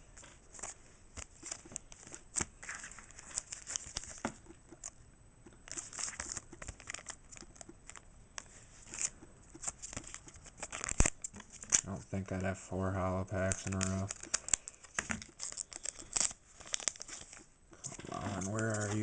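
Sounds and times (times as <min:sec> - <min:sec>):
foil wrappers crinkling: 0:00.1 - 0:04.9, 0:05.6 - 0:19.0.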